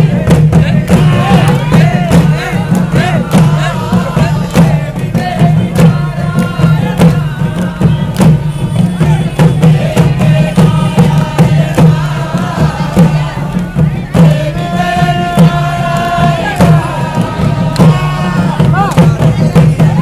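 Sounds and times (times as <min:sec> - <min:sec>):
crowd noise: 0:00.0 - 0:20.0
drum beats: 0:00.0 - 0:20.0
group singing folk song: 0:00.0 - 0:20.0.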